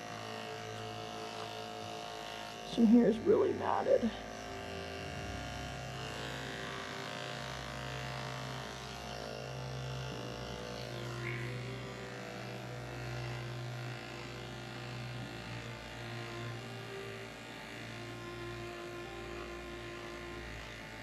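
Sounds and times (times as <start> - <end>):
electric clippers humming: 0.0 - 21.0.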